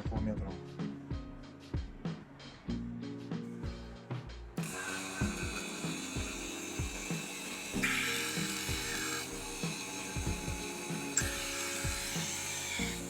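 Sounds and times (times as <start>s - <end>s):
synth music with steady beat: 0.0s - 13.0s.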